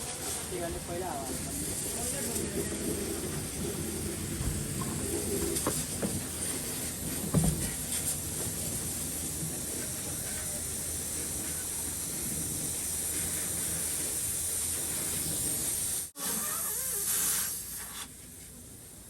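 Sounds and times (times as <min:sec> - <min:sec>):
compressed air hissing from air line: 0:00.0 - 0:18.4.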